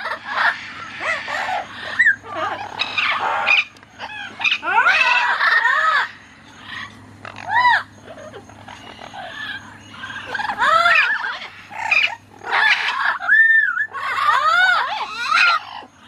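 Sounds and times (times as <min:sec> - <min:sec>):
parrots squawking and whistling: 0:00.0 - 0:16.0.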